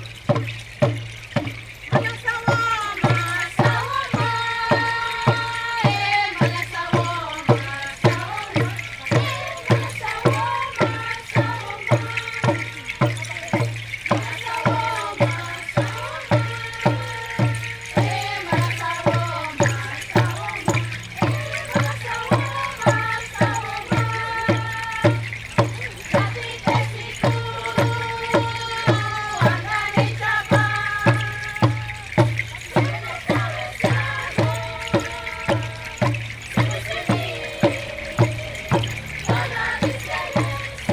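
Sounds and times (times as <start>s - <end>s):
steady drumbeat: 0.0s - 40.9s
group singing held notes: 2.0s - 40.9s.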